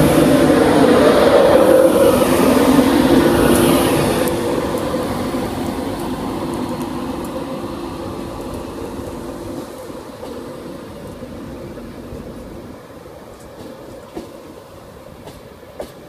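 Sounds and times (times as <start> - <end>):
electric train hum: 0.0 - 16.0
wheel and rail rumble: 0.0 - 16.0.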